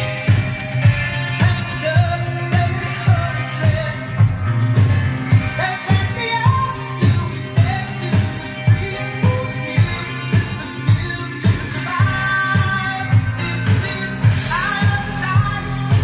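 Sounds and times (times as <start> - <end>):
rock song over loudspeakers: 0.0 - 16.0.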